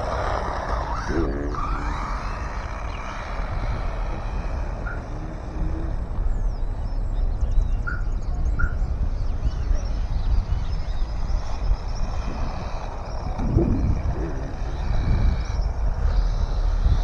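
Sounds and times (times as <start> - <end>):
rumble of car on asphalt: 0.0 - 17.0
wind noise: 0.0 - 17.0.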